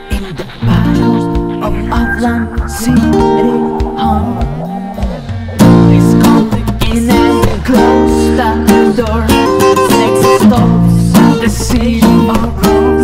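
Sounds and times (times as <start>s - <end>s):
guitar music: 0.0s - 13.0s.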